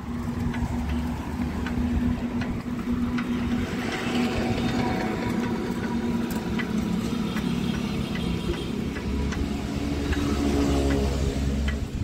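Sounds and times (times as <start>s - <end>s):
road traffic: 0.0s - 12.0s
vehicle engine running: 0.0s - 12.0s.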